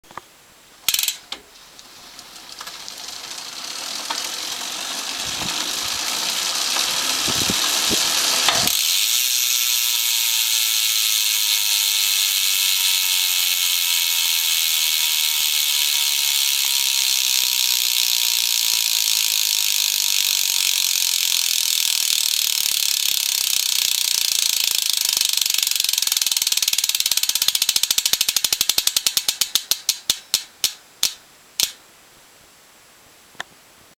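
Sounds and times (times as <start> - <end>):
bicycle freewheel ratcheting: 0.9 - 31.8.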